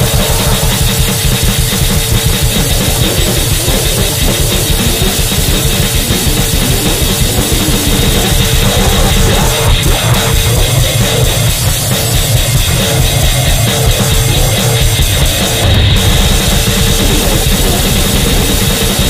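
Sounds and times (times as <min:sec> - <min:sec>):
heavily distorted noise wall: 0:00.0 - 0:19.0
very fast dense drumming: 0:00.0 - 0:19.0.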